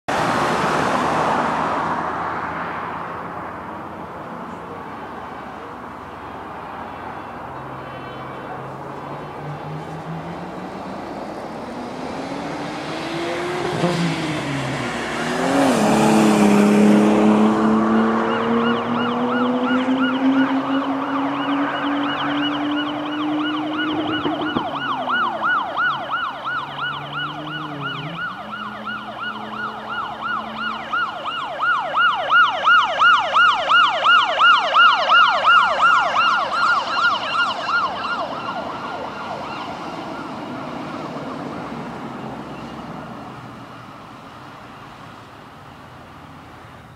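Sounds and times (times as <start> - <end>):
fire engine siren wailing: 0.2 - 46.8.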